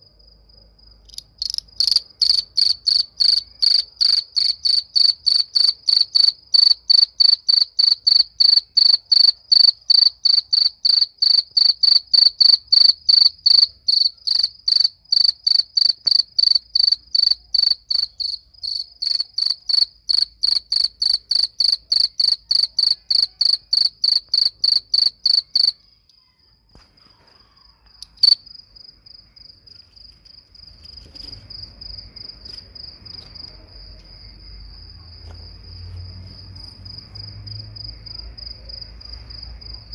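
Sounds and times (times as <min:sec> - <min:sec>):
cricket chirping: 0:00.0 - 0:39.9
high insect trill: 0:01.1 - 0:26.1, 0:27.4 - 0:39.7.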